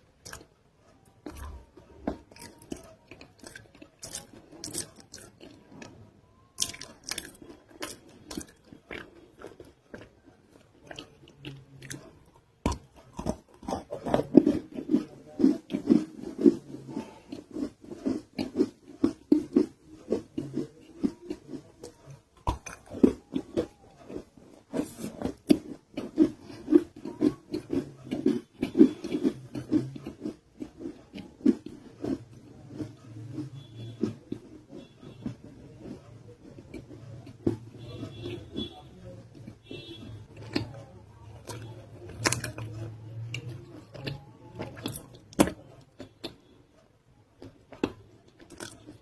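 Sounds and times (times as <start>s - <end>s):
crunchy biting and chewing: 0.2s - 49.0s.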